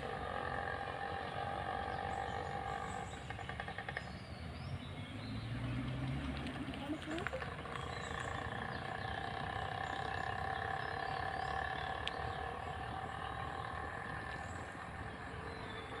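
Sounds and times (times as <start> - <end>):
distant engine hum: 0.0 - 16.0.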